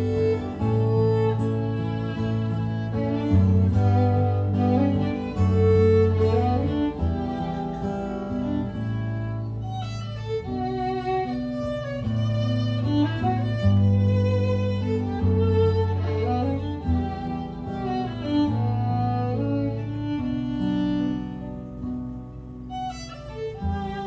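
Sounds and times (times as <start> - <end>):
guitar accompaniment: 0.0 - 24.0
violin slow melody: 0.0 - 24.0.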